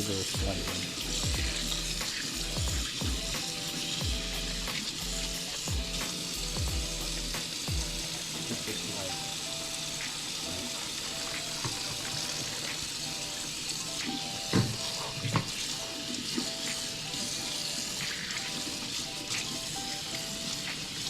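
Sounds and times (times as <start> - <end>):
oil sizzling in a frying pan: 0.0 - 21.0
soft background music: 0.0 - 21.0.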